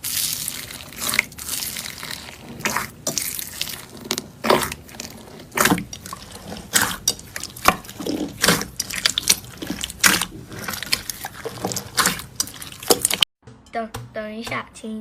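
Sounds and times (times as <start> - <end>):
slime squelching: 0.0 - 13.3.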